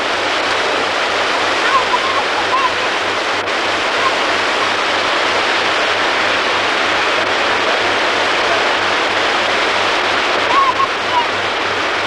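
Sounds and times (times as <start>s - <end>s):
waterfall and river rushing: 0.0s - 12.0s.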